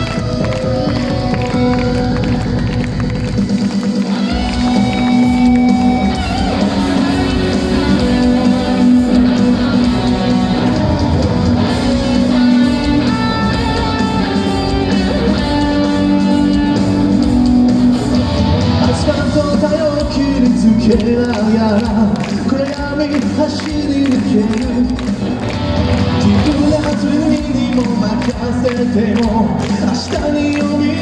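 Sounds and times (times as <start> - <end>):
live rock music with electric guitar: 0.0 - 31.0.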